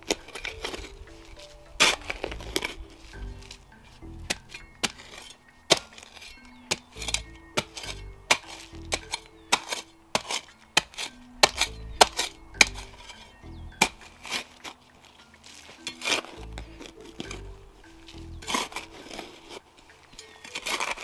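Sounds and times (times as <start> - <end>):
background music: 0.0 - 21.0
shovel striking stones: 0.0 - 21.0.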